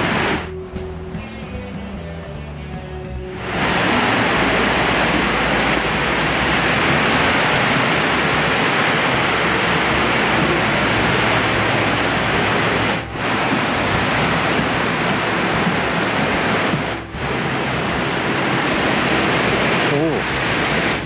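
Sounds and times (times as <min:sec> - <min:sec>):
waterfall rushing: 0:00.0 - 0:00.5, 0:03.3 - 0:21.0.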